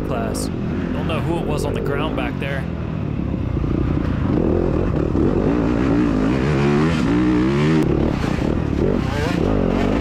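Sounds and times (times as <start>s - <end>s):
dirt bike engine revving: 0.5s - 10.0s.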